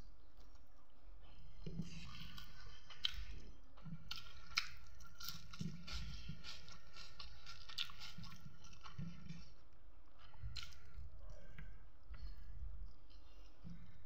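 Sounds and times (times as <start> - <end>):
person chewing with wet smacks: 0.4 - 14.0.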